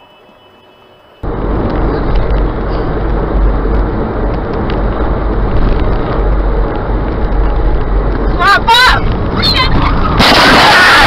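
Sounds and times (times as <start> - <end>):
car driving at highway speed: 0.9 - 10.3.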